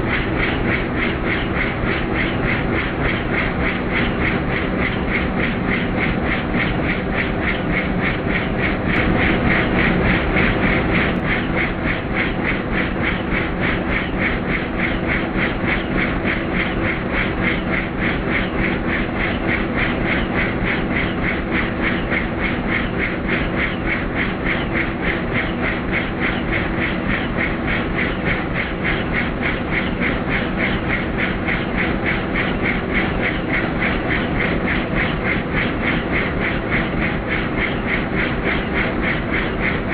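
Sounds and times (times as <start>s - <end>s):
helicopter engine running: 0.0s - 39.9s
helicopter rotor chop: 0.0s - 39.9s.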